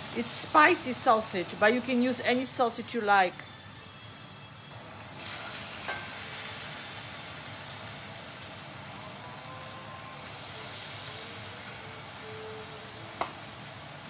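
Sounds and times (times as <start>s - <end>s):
sausage sizzling in oil: 0.0s - 14.0s.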